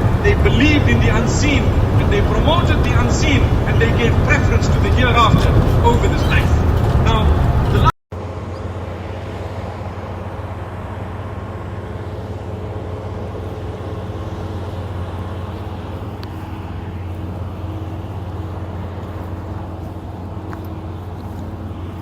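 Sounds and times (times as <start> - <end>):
road noise: 0.0 - 22.0
truck engine drone: 0.0 - 22.0.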